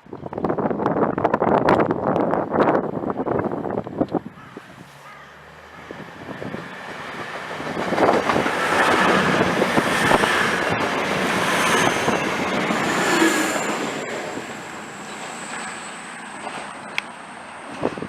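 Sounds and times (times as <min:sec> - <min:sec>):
train rumbling and rattling: 0:00.0 - 0:18.0.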